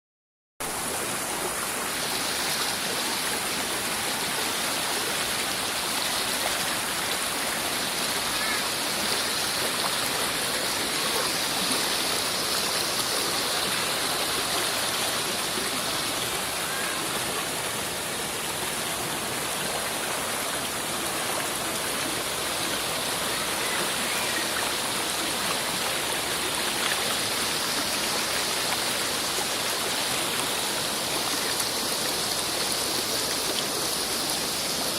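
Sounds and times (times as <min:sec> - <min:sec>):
waterfall rushing and splashing: 0:00.6 - 0:34.9.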